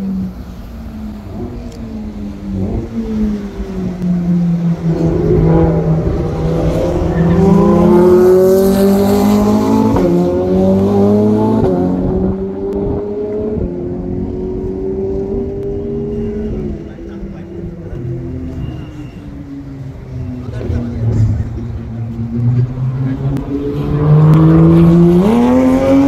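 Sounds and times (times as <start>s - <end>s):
car engine accelerating hard: 1.2s - 18.9s, 19.9s - 26.0s.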